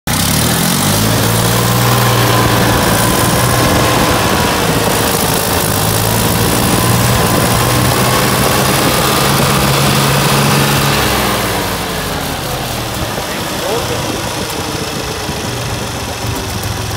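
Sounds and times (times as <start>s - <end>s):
tractor engine running: 0.1s - 16.9s.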